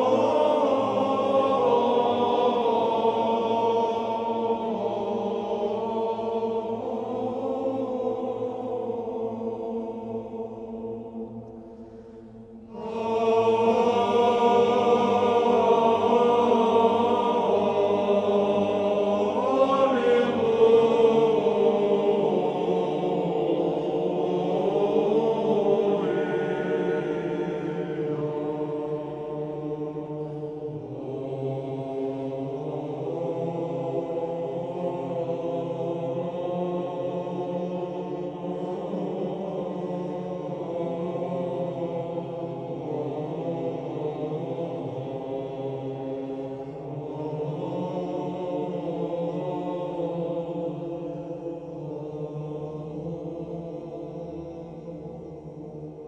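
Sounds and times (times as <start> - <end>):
choral chanting: 0.0 - 56.0.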